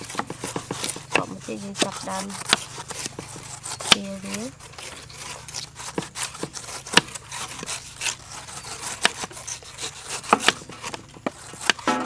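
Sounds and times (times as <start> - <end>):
knife cutting pineapple: 0.0 - 12.0.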